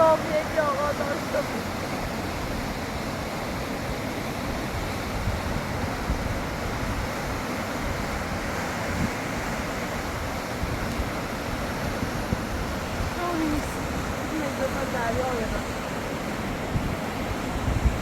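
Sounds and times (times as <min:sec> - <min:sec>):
floodwater rushing in river: 0:00.0 - 0:18.0.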